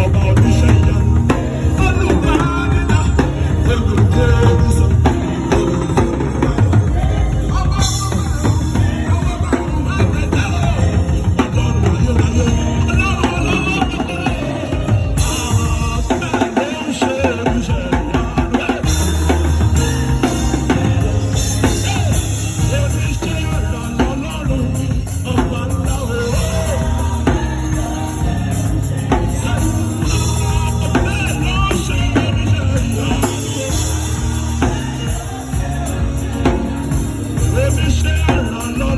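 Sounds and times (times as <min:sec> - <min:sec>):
drum kit beating: 0:00.0 - 0:38.9
live worship band music: 0:00.0 - 0:38.9
voices singing gospel: 0:00.0 - 0:38.9.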